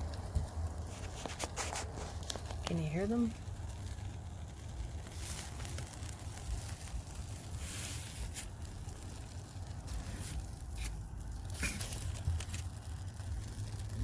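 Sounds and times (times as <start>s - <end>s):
fries sizzling in hot grease: 0.0s - 14.0s
steady low rumble: 0.0s - 14.0s.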